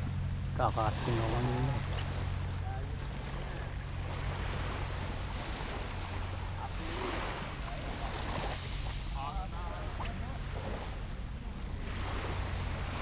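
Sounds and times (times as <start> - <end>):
small waves washing onto sand: 0.0 - 13.0.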